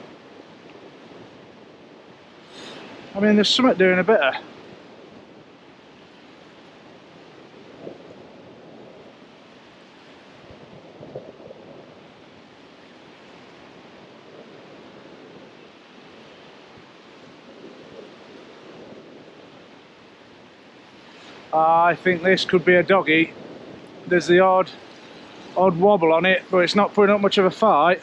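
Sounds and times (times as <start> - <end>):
sea surf on a beach: 0.0 - 28.0.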